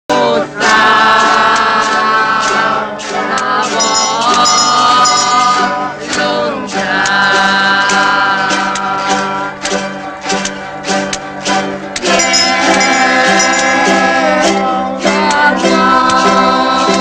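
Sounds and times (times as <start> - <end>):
person singing long notes: 0.1 - 10.0, 12.0 - 17.0
plucked instrumental accompaniment: 0.1 - 17.0.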